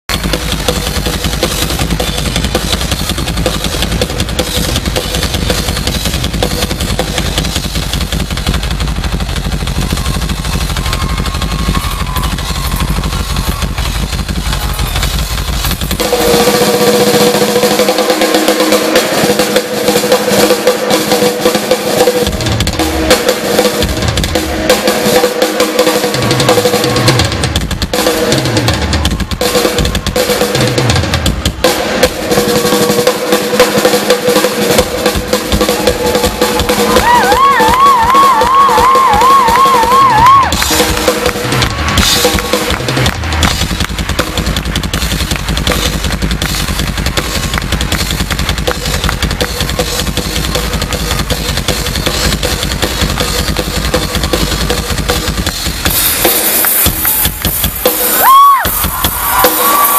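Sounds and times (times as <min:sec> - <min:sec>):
rock drum solo: 0:00.1 - 0:59.9.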